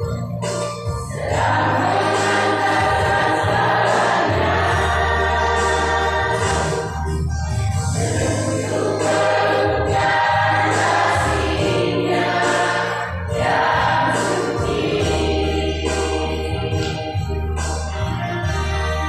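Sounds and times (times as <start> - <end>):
choir singing in parts: 1.0 - 7.3, 7.9 - 17.5.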